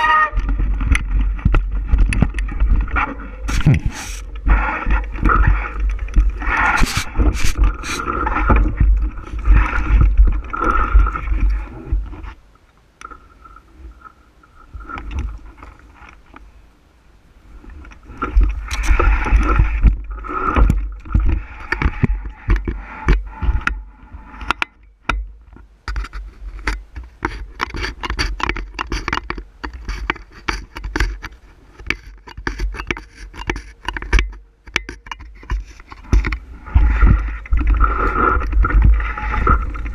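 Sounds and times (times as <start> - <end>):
bicycle rattling on rough trail: 0.0 - 12.4, 17.7 - 39.9.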